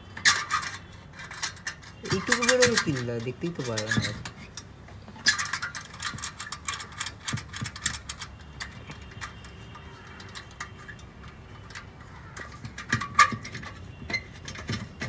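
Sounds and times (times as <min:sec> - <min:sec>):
metallic clicks and scraping: 0:00.0 - 0:15.0.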